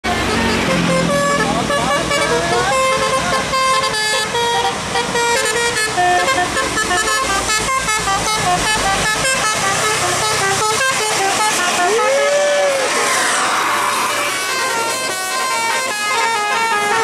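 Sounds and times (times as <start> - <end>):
multi-tone bus horn playing tune: 0.0 - 17.0.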